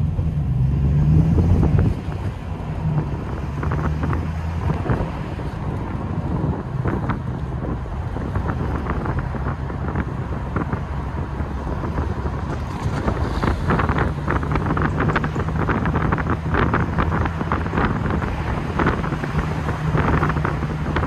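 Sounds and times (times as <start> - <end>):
car engine burbling: 0.0 - 21.0
wind buffeting microphone: 0.0 - 21.0.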